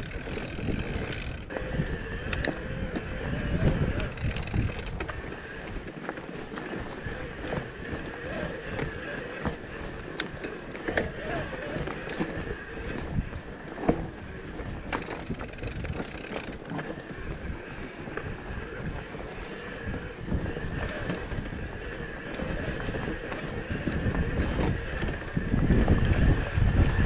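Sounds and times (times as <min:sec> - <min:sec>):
bike tyre and drivetrain noise: 0:00.0 - 0:27.0
wind buffeting microphone: 0:00.0 - 0:27.0.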